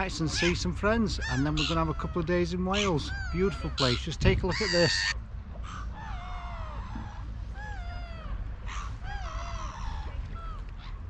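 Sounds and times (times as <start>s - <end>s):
gulls calling: 0.0s - 11.0s
low steady background rumble: 0.0s - 11.0s.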